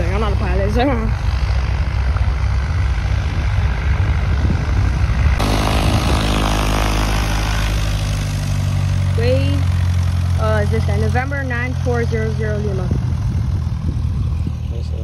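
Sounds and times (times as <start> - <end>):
propeller plane engine drone: 0.0 - 15.0
propeller plane taxiing buzz: 0.0 - 15.0.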